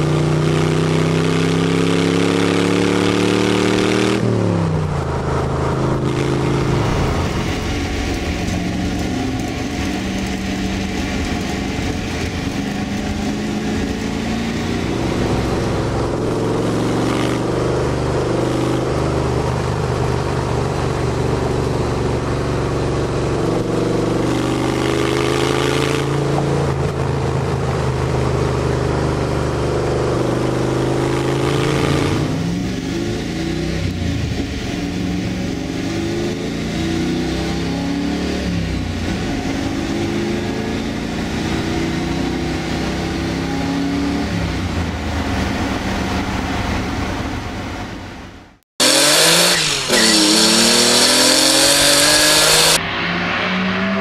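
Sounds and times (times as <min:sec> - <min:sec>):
car engine running while driving: 0:00.0 - 0:54.0.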